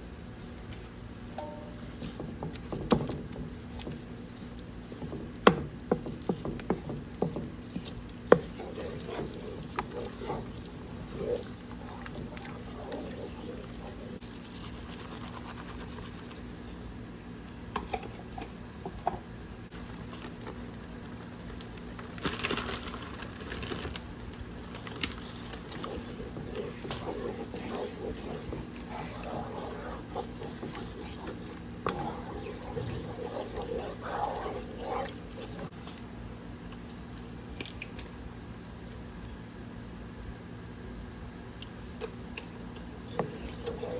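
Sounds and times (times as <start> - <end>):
steady low hum: 0.0 - 22.2, 23.9 - 43.9.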